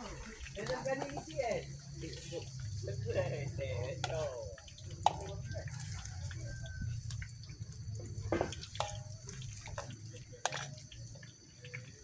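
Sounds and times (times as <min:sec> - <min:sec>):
liquid bubbling at the boil: 0:00.0 - 0:12.0
wood fire crackling: 0:00.0 - 0:12.0.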